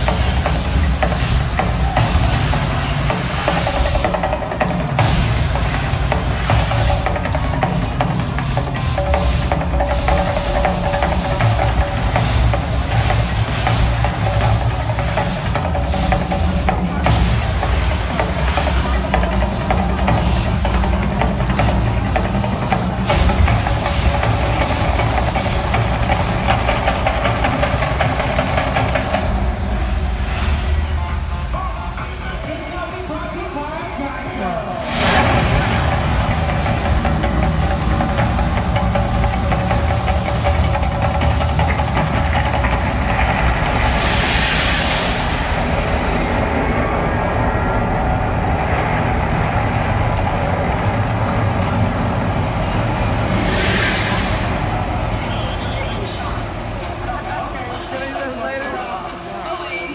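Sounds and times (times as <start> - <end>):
gas flames rushing: 0.0 - 32.3, 34.7 - 59.4
deep rumble with hissing: 0.0 - 59.9.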